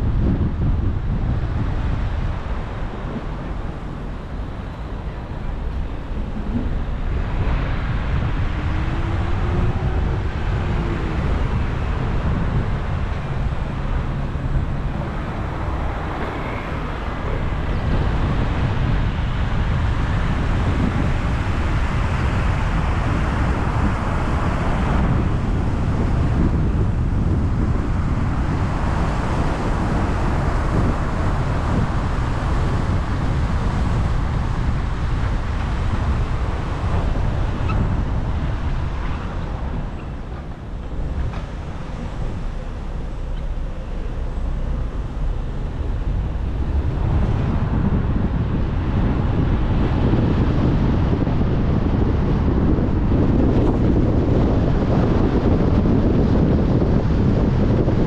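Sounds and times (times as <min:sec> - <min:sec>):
wind rushing past: 0:00.0 - 0:58.0.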